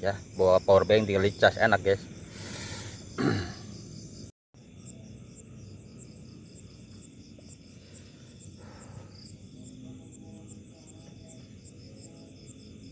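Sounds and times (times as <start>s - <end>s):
crickets chirping: 0.0s - 12.9s
low background hum: 0.0s - 12.9s.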